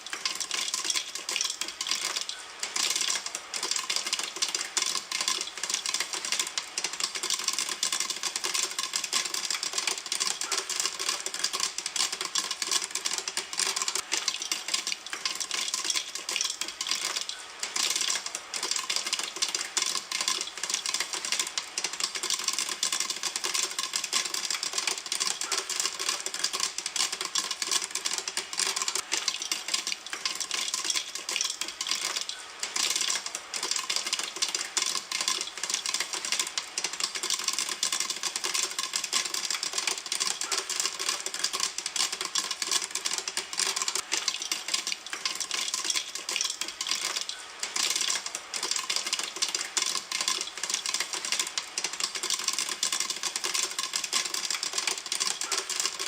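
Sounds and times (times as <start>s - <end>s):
popcorn popping in a pan: 0.0s - 56.0s.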